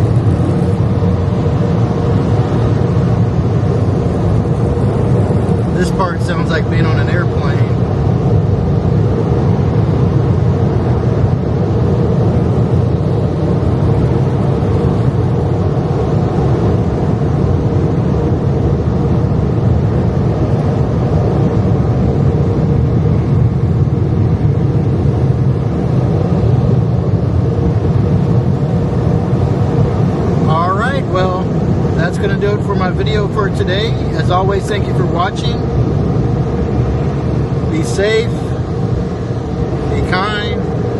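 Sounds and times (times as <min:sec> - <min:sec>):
loud rushing drone inside a car: 0:00.0 - 0:40.9.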